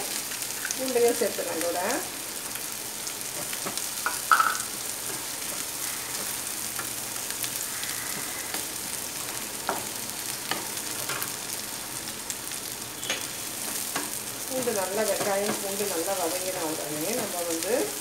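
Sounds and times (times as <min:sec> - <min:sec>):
onion and garlic sizzling: 0:00.0 - 0:18.0.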